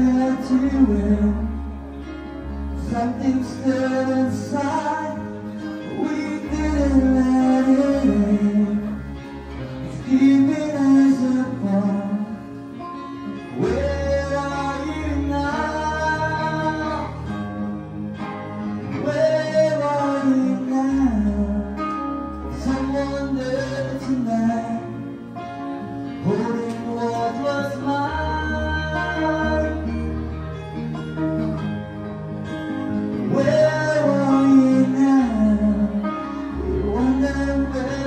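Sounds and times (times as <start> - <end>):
man singing into a microphone: 0.0 - 17.8, 18.4 - 25.4, 26.0 - 30.6, 33.1 - 38.0
acoustic guitar: 0.0 - 38.0
electric keyboard: 0.0 - 38.0.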